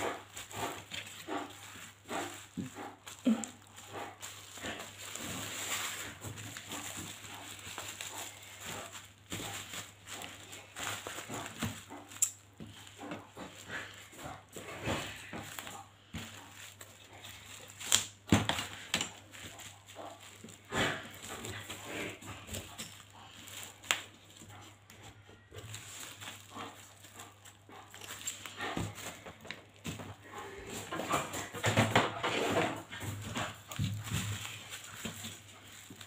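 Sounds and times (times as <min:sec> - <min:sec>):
bubble wrap crinkling: 0:00.0 - 0:36.0.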